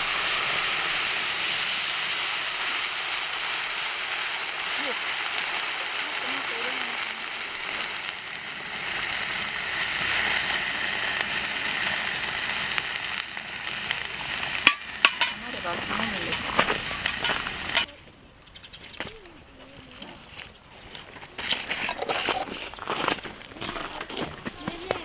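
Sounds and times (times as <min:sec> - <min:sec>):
fire crackling and snapping: 0:00.0 - 0:21.8.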